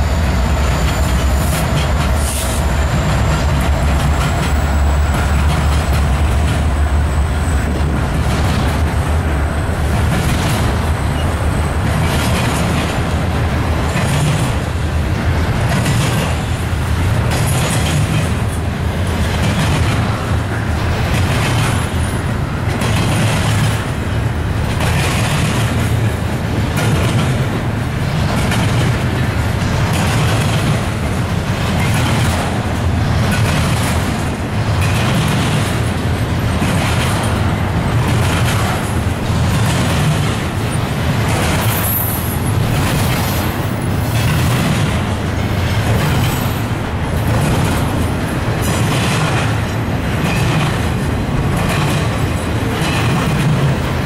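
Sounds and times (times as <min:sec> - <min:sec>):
freight train rumbling past: 0:00.0 - 0:54.0
wheel clacks over rail joints: 0:00.2 - 0:54.0.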